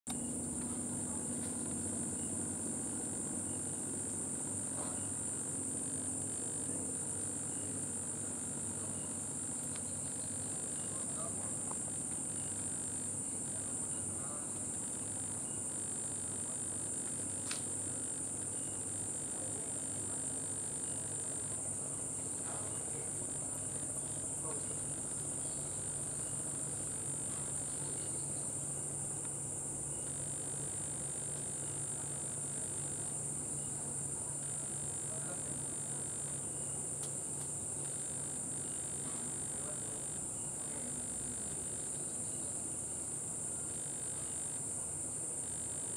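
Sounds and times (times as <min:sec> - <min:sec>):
crickets chirping: 0:00.1 - 0:45.9.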